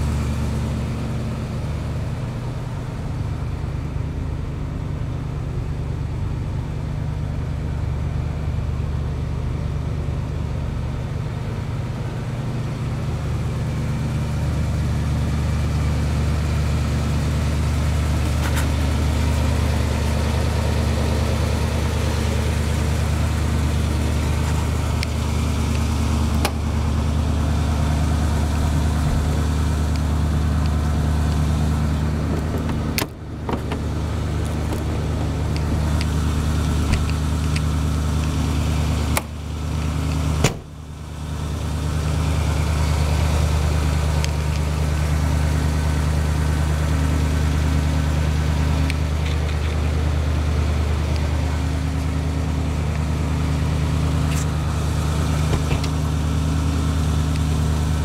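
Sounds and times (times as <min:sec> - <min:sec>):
van engine idling: 0:00.0 - 0:58.0.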